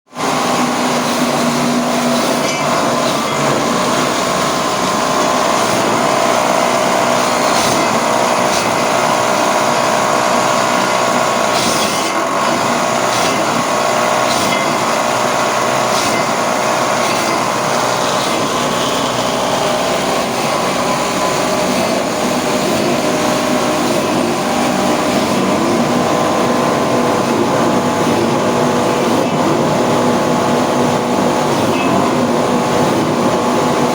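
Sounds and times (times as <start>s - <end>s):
machine motor hum: 0.1s - 33.9s.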